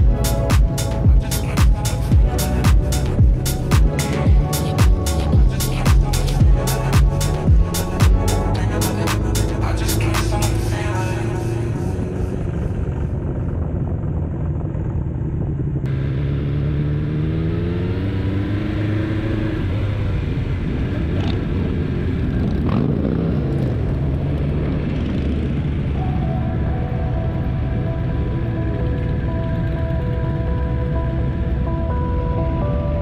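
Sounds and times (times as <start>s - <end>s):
motorcycle engine accelerating: 0.0s - 31.6s.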